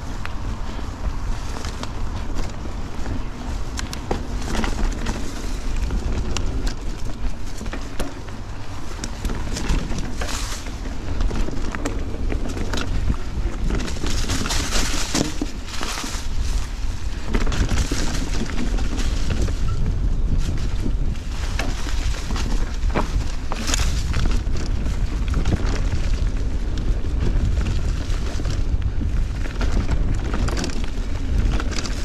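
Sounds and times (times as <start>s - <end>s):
bike clicks and rattles: 0.0s - 32.0s
wind buffeting microphone: 0.0s - 32.0s.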